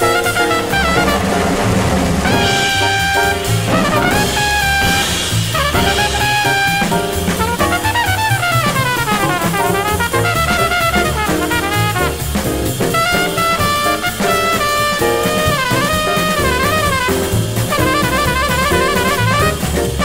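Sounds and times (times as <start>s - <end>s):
horn solo: 0.0s - 20.0s
jazz band playing: 0.0s - 20.0s.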